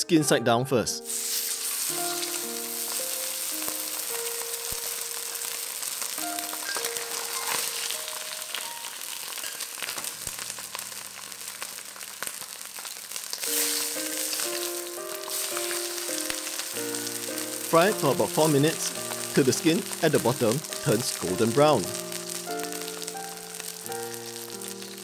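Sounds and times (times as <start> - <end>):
chicken sizzling in hot oil: 1.1 - 25.0.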